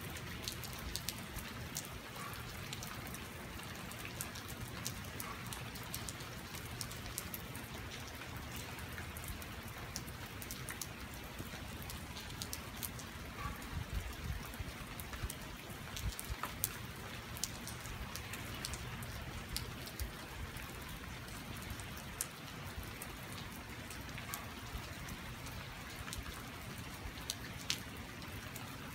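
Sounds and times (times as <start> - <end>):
raindrops ticking: 0.0 - 28.9
steady rain falling: 0.0 - 28.9.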